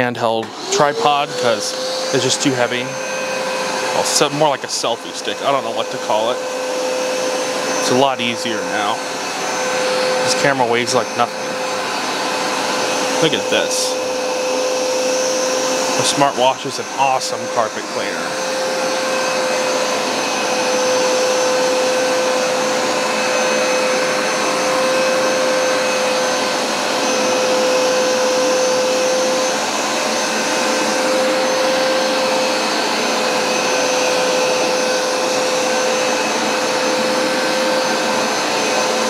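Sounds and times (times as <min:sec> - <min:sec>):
carpet cleaner motor whining: 0:00.0 - 0:39.0.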